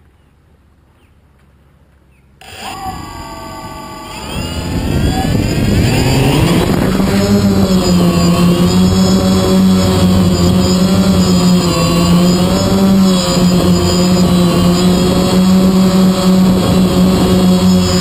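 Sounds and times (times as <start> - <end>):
drone propellers buzzing: 2.4 - 18.0.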